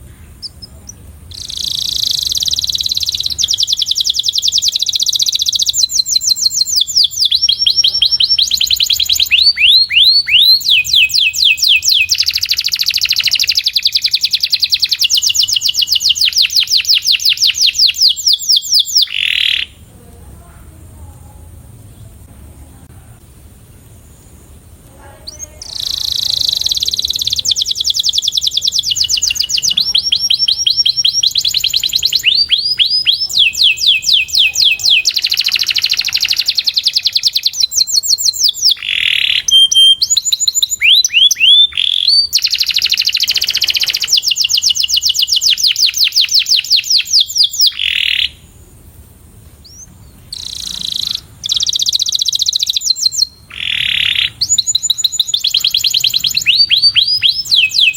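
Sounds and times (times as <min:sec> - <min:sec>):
canary singing trills: 0:00.0 - 0:19.9, 0:23.9 - 0:48.8, 0:49.6 - 0:57.9.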